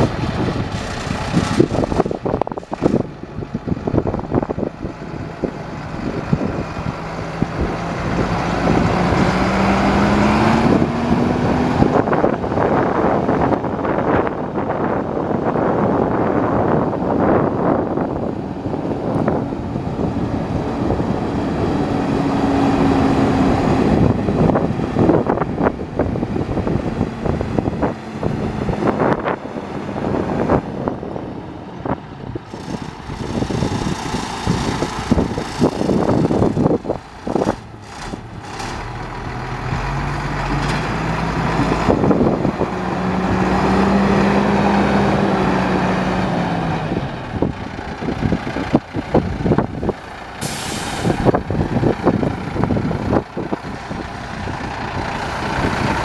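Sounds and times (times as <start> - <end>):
diesel engine running: 0.0 - 56.0
truck driving on gravel: 0.0 - 56.0.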